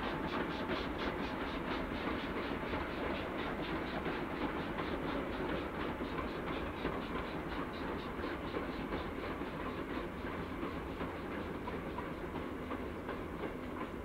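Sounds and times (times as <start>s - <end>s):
steam train rumbling with regular beat: 0.0s - 14.0s.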